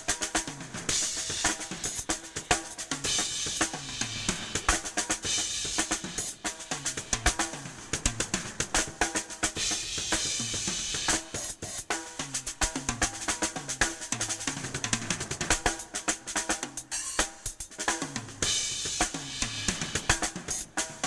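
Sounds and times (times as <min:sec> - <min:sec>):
snare and bass drum strokes: 0:00.0 - 0:21.0.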